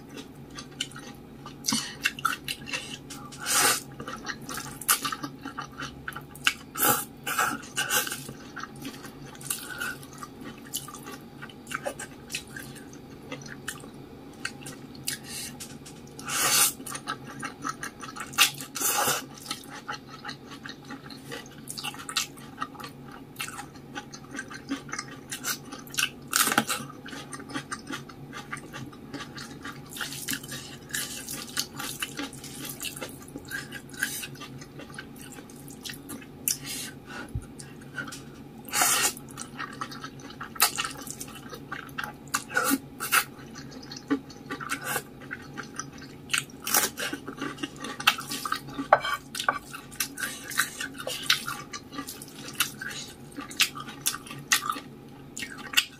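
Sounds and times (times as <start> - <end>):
person chewing noodles: 0.0 - 55.9.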